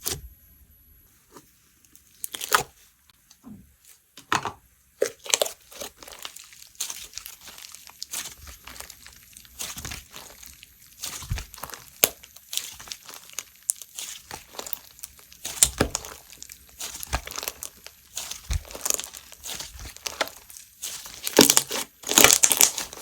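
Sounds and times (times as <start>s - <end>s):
slime crackling and popping: 2.2s - 2.7s, 5.0s - 23.0s.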